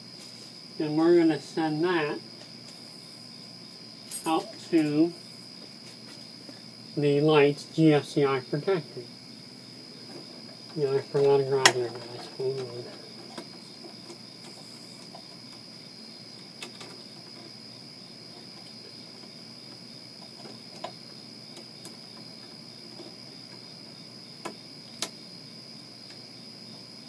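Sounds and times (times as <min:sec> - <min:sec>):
faint high-pitched whine: 0:00.0 - 0:27.0.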